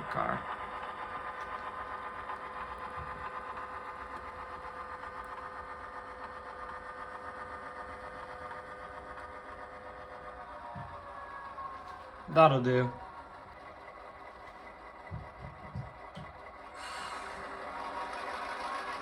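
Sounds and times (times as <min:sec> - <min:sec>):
model diesel locomotive humming: 0:00.0 - 0:19.0.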